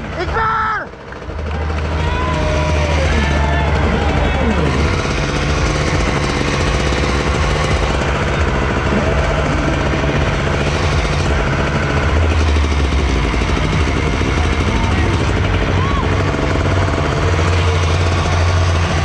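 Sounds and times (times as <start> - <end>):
dirt bike engine running loudly: 0.0 - 19.0.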